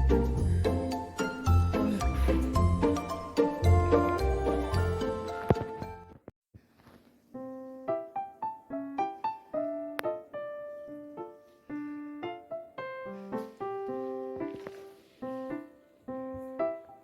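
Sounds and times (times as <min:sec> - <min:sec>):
piano melody: 0:00.0 - 0:06.2, 0:07.4 - 0:17.0.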